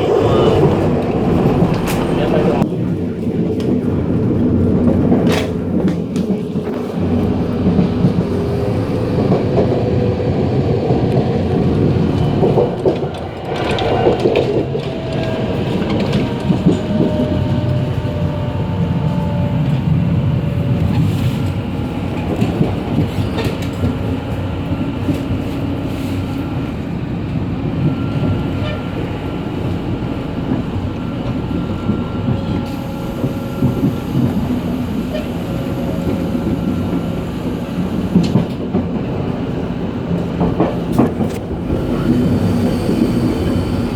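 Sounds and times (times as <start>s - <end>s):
train running rumble: 0.0s - 43.9s.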